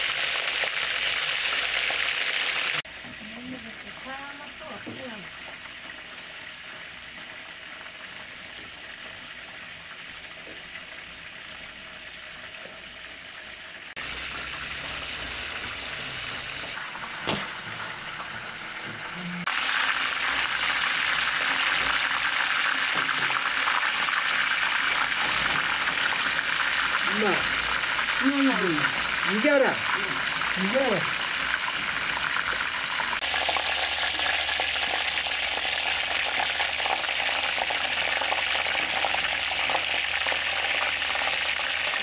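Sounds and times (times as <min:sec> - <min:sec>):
food sizzling in hot oil: 0:00.0 - 0:42.0.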